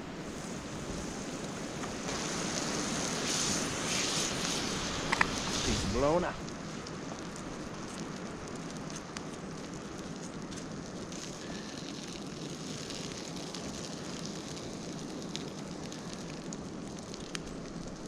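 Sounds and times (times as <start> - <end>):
campfire crackling and popping: 0.0 - 18.0
meat sizzling on metal: 0.1 - 18.0.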